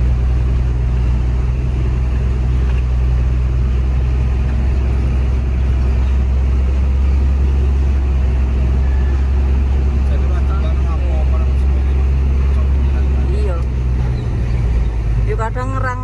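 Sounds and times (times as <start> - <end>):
diesel truck engine rumbling: 0.0 - 16.0.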